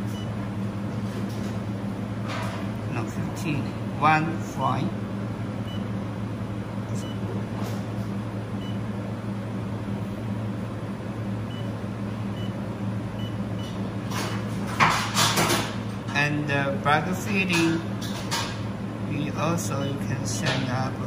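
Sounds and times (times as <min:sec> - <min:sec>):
cooling system humming: 0:00.0 - 0:21.0.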